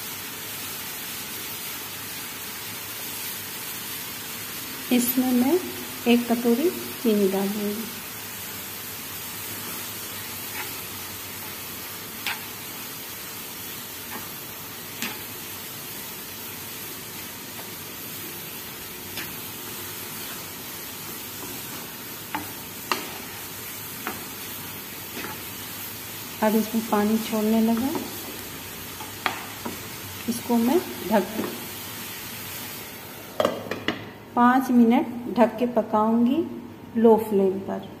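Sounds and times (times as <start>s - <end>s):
vegetables sizzling in a frying pan: 0.0s - 36.5s.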